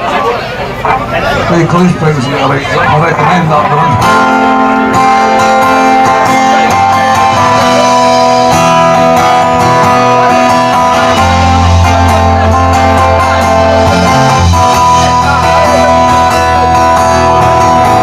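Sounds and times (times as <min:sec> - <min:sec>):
strummed acoustic guitar: 0:00.0 - 0:18.0
deep bass notes: 0:00.9 - 0:18.0.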